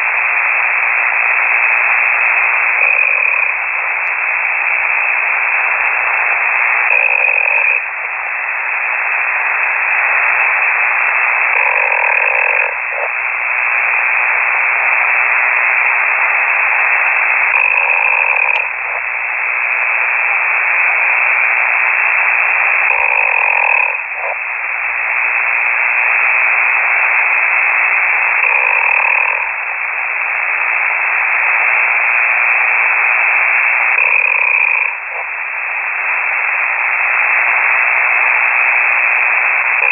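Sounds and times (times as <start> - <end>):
person snoring over radio: 0.0 - 39.9
radio hiss: 0.0 - 39.9.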